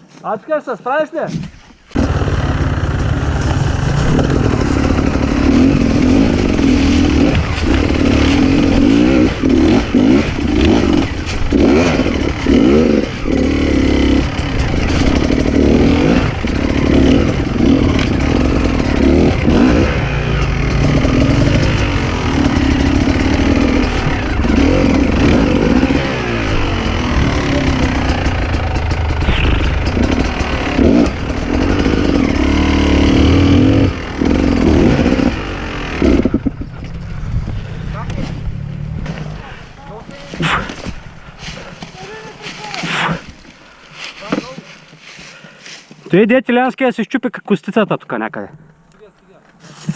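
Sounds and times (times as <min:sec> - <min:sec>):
dirt bike engine revving: 0:01.9 - 0:44.8.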